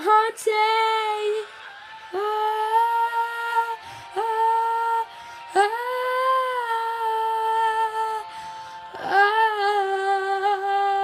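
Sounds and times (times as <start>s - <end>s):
girl singing wordless notes: 0.0s - 11.0s.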